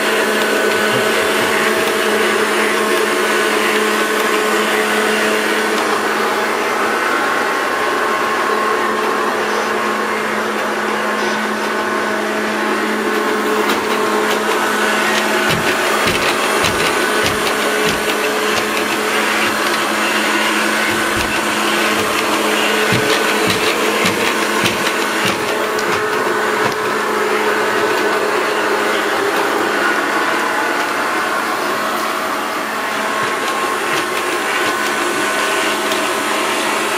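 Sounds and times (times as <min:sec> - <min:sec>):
robot vacuum cleaner running: 0:00.0 - 0:36.9.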